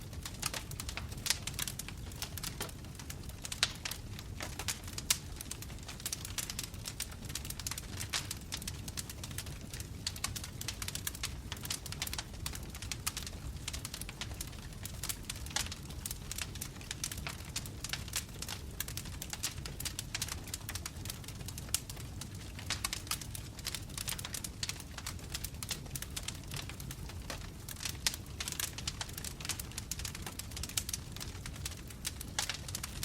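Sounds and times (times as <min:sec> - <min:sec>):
burning logs crackling and popping: 0:00.0 - 0:33.0
low rumble of flames: 0:00.0 - 0:33.0.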